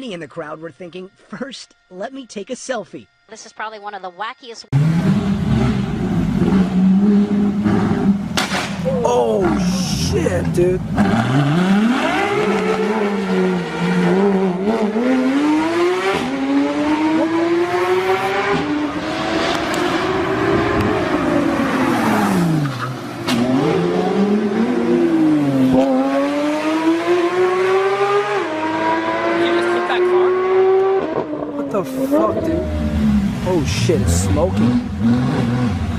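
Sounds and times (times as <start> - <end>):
car engine revving hard: 4.7 - 35.9.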